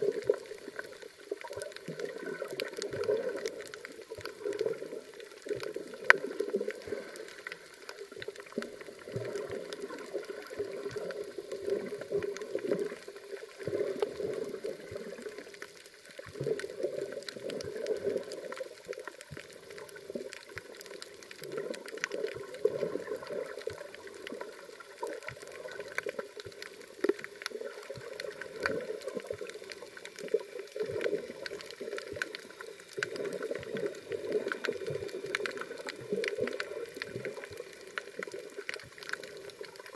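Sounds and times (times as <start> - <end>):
faint underwater clicks: 0.0 - 39.9.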